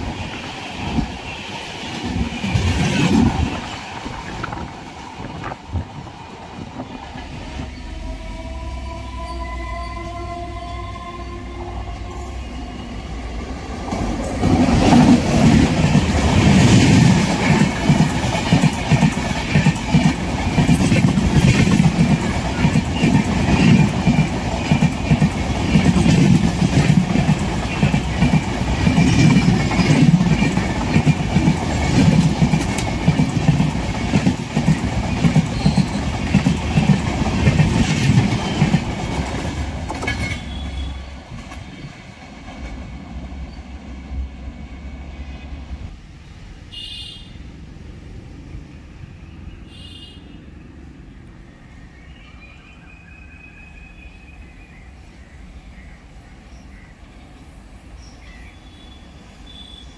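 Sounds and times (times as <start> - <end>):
train passing at speed: 0.0 - 59.9.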